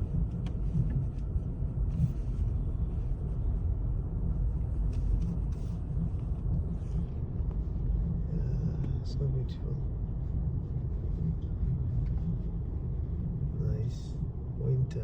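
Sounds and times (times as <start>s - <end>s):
car tyres and engine rumble: 0.0s - 15.0s.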